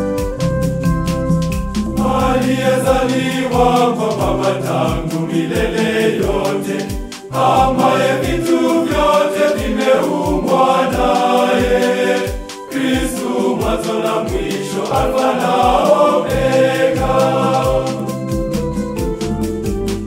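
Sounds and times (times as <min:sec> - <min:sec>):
steady drum beat: 0:00.0 - 0:20.0
male choir singing a hymn: 0:02.0 - 0:18.4.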